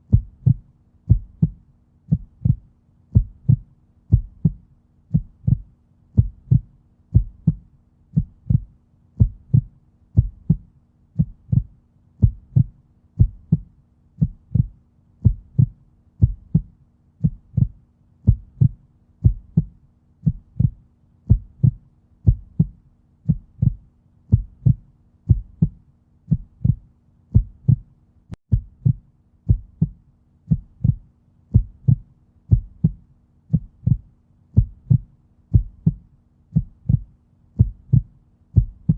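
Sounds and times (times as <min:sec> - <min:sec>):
heartbeat thumps: 0:00.1 - 0:38.9.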